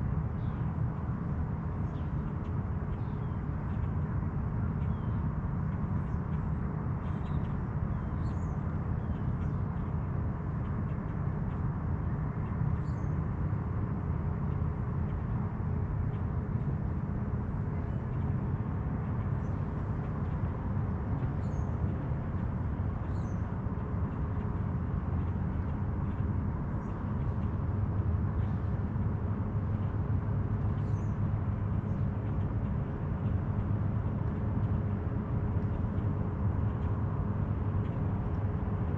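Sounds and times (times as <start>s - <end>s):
motorboat engine drone: 0.0s - 38.9s.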